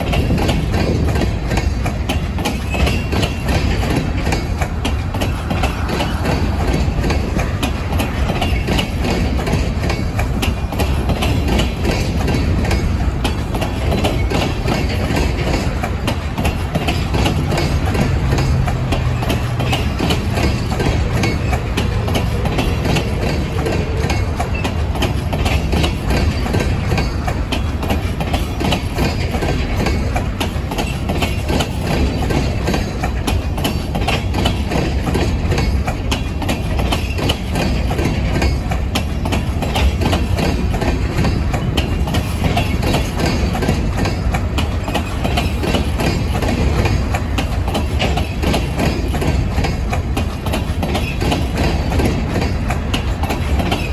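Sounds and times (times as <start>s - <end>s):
train wheels rumbling on rails: 0.0s - 53.9s
wheels clicking over track joints: 0.0s - 53.9s.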